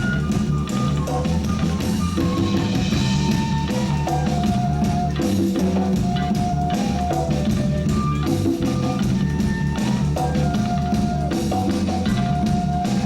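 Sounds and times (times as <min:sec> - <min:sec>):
live reggae band playing: 0:00.0 - 0:13.0.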